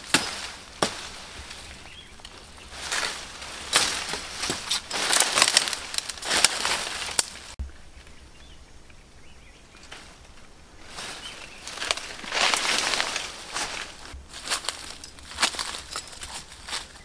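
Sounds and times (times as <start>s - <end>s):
footsteps crackling through undergrowth: 0.0s - 17.0s.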